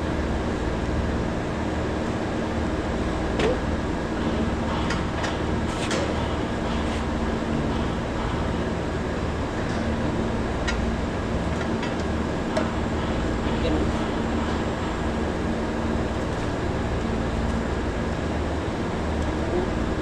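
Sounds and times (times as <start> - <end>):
machinery hum and rumble: 0.0 - 20.0.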